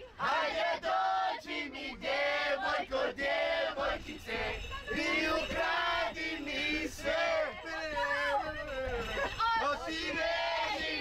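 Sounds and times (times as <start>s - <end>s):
group singing chant-like phrases: 0.2s - 7.8s, 9.7s - 11.0s.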